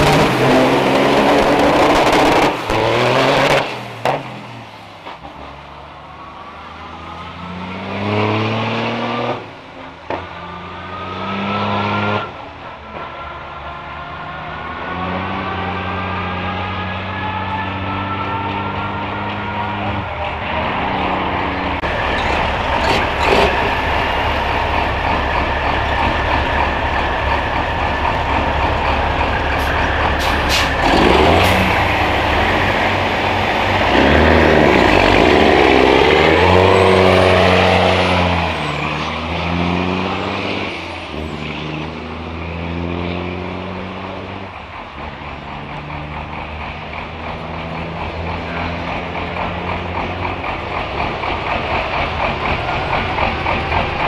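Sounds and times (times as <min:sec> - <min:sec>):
diesel truck engines revving: 0:00.0 - 0:54.0.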